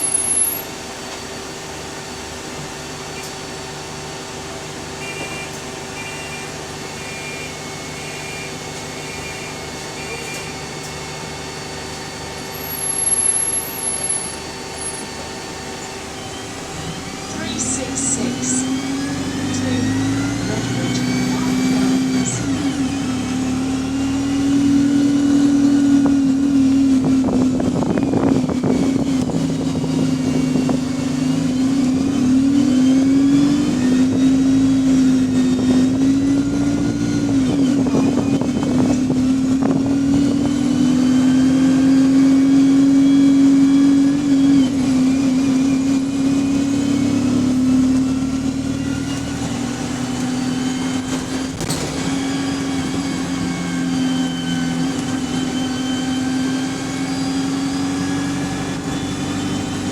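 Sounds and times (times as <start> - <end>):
bus drivetrain hum: 0.0 - 59.9.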